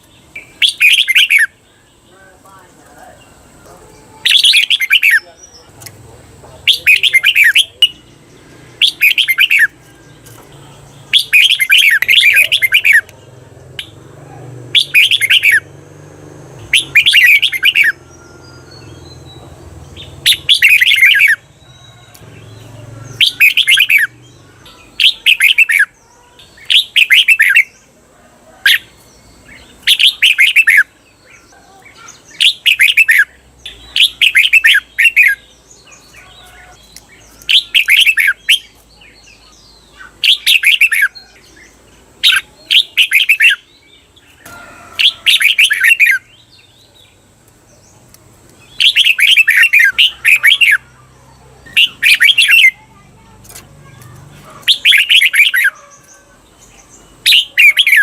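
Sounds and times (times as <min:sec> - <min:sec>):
bulbul singing warbling phrases: 0:00.0 - 0:58.0.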